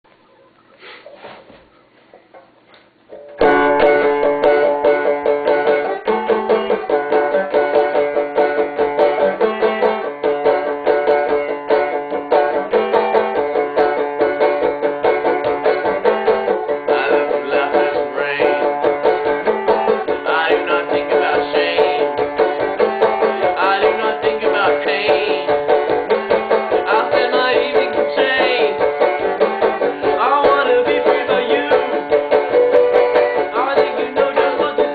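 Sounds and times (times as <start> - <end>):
banjo picking: 3.2 - 34.9.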